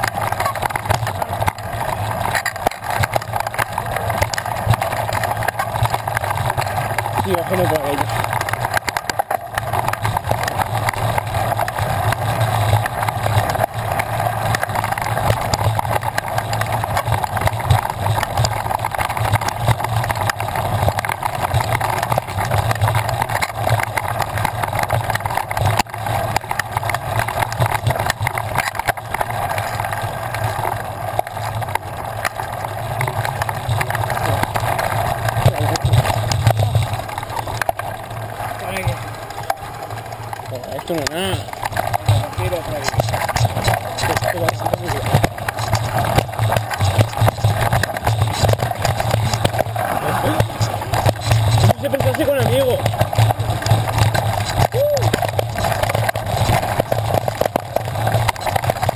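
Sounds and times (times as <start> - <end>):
bike knocking and rattling: 0.0 - 58.9
steady rushing noise: 0.0 - 58.9.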